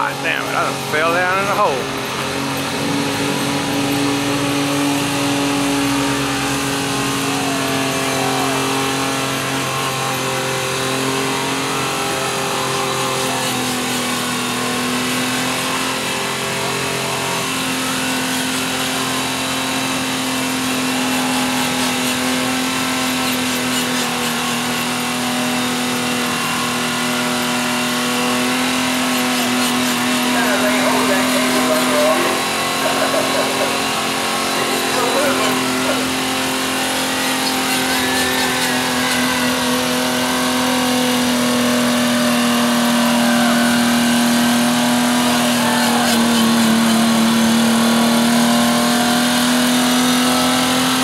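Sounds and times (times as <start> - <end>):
vehicle engine at high revs: 0.0 - 51.0.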